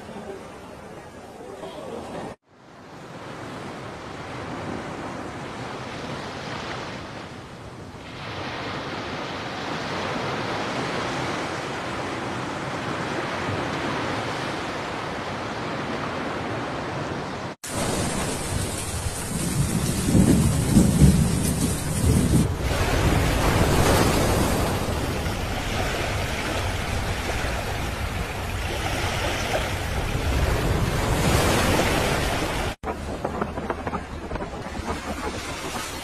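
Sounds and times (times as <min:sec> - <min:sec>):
sea noise: 0:00.0 - 0:36.0
rushing wind: 0:02.2 - 0:36.0
wind gusting against microphone: 0:03.5 - 0:36.0.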